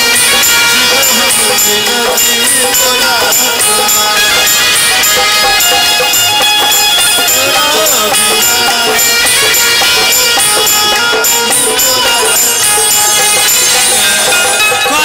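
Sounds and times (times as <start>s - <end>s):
live band instrumental: 0.0s - 15.0s
short high percussion strikes: 0.0s - 15.0s.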